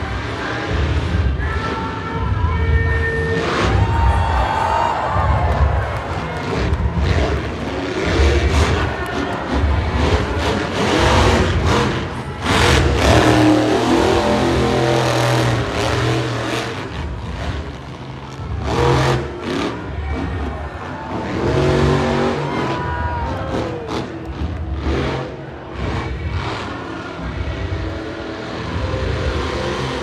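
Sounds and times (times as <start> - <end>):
monster truck engines revving: 0.0 - 30.0.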